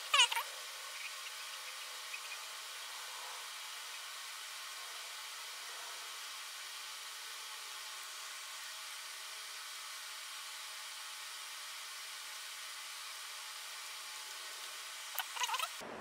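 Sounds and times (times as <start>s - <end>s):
steady hiss: 0.0s - 15.8s.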